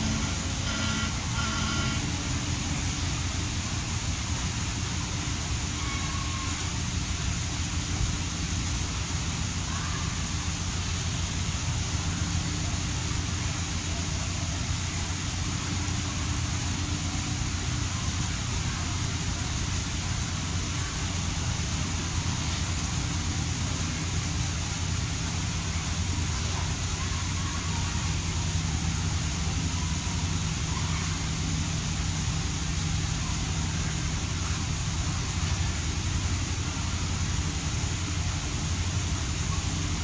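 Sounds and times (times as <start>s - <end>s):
constant hiss: 0.0s - 40.0s.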